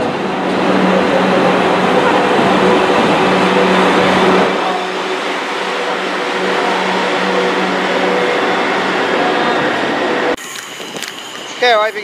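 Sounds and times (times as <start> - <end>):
electric train traction hum: 0.0 - 12.0
train rolling noise: 0.0 - 12.0.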